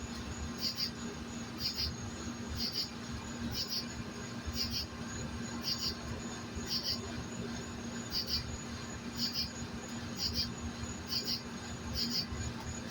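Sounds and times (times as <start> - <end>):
faint low hum: 0.0 - 12.9
cricket chirping: 0.3 - 12.9.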